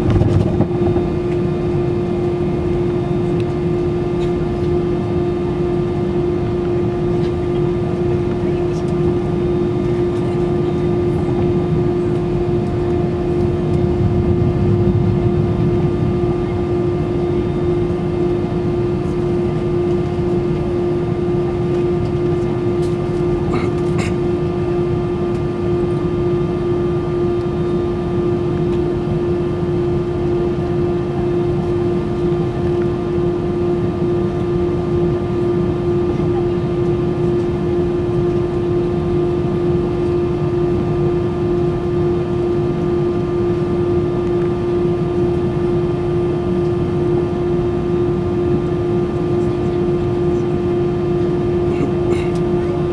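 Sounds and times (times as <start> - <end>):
constant hum: 0.0 - 52.9
jet engine cabin drone: 0.0 - 52.9.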